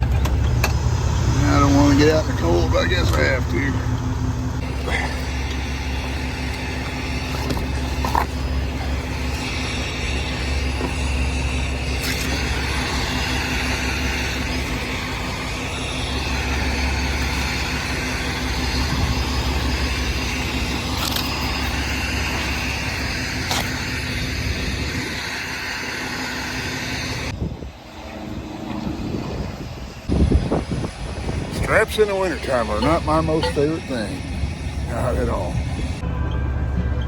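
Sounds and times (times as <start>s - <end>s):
road noise: 0.0s - 37.0s
truck engine drone: 0.0s - 37.0s.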